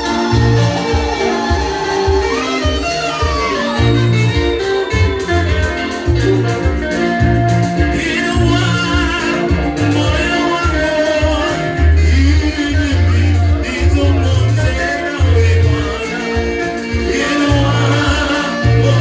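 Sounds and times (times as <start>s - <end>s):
upbeat worship band music: 0.0s - 19.0s.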